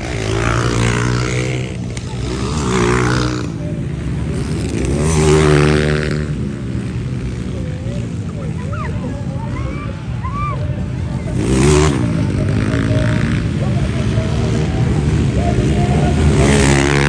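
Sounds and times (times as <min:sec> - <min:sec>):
motorcycles revving past: 0:00.0 - 0:17.0.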